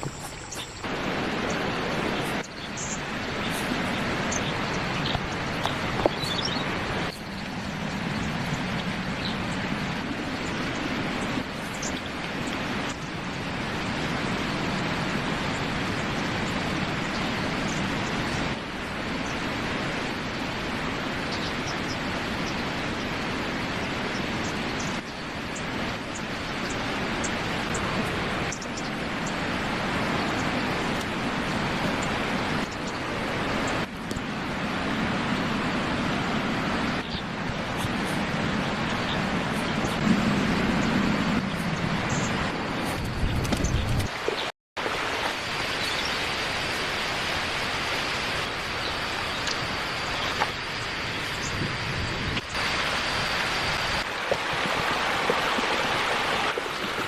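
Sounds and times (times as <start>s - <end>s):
rushing outdoor noise: 0.0s - 57.0s.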